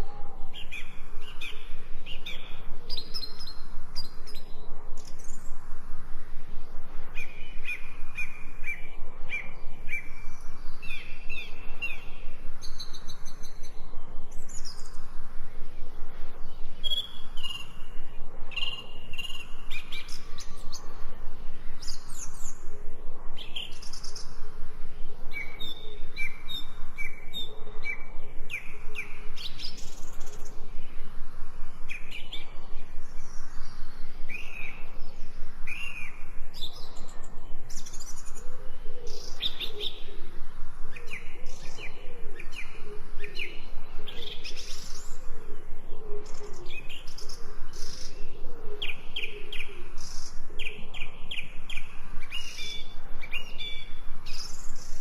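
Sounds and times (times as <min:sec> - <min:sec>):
songbirds chirping: 0:00.0 - 0:55.0
steady outdoor hiss: 0:00.0 - 0:55.0.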